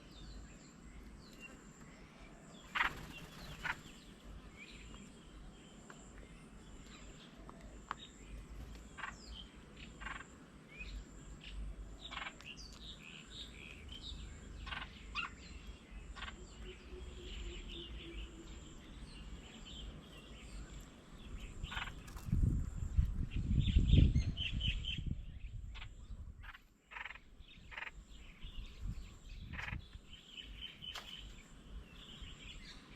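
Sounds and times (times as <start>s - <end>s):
wild birds chirping: 0.0s - 32.9s.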